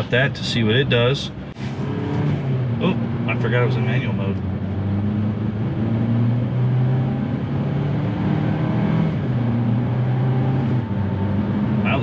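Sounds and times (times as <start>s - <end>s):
car engine pulling: 0.0s - 12.0s
road noise: 0.0s - 12.0s.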